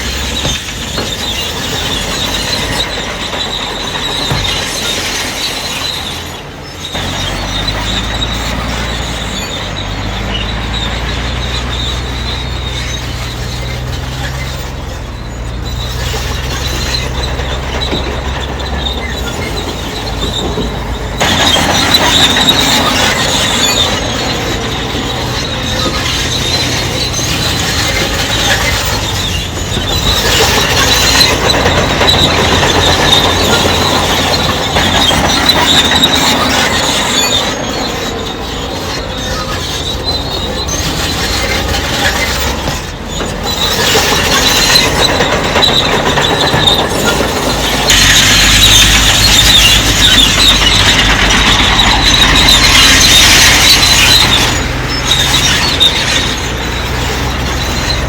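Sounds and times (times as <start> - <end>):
bulldozer diesel engine droning: 0.0 - 58.0
high squeal of steel tracks: 0.0 - 58.0.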